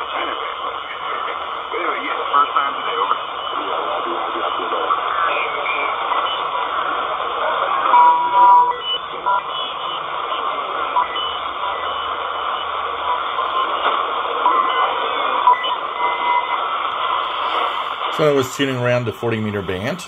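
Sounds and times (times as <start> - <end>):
radio band noise hiss: 0.0 - 20.0
radio carrier whistles: 0.4 - 18.6.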